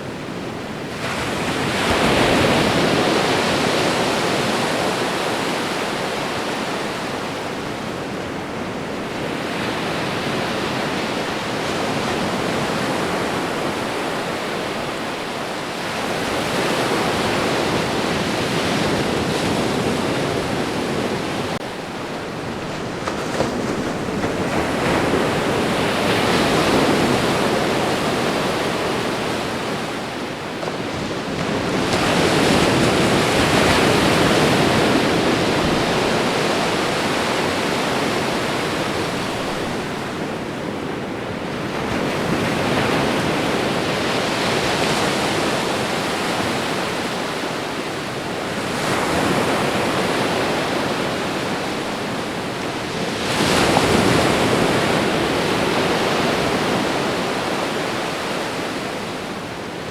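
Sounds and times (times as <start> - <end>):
ocean surf washing onto shore: 0.0 - 59.9.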